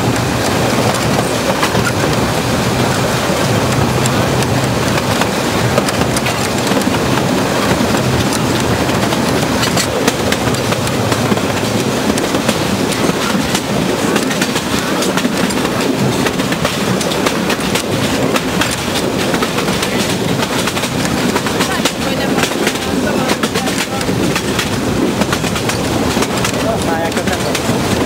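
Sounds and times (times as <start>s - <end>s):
track clicks and clatter: 0.0s - 28.0s
train wheels rumbling on rails: 0.0s - 28.0s.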